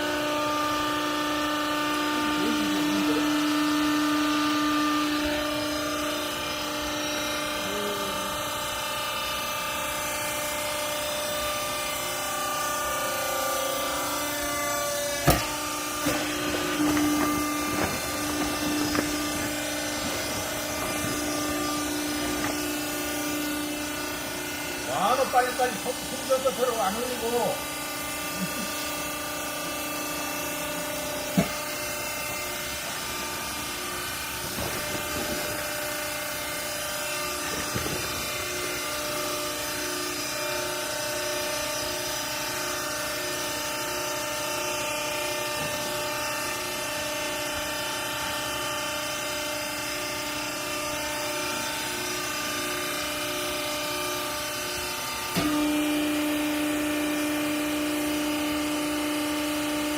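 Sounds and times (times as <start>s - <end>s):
electric motor and pump humming: 0.0s - 59.9s.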